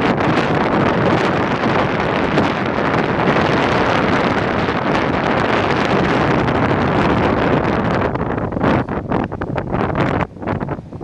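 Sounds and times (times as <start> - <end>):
storm surf breaking: 0.0 - 11.0
wind buffeting microphone: 0.0 - 11.0.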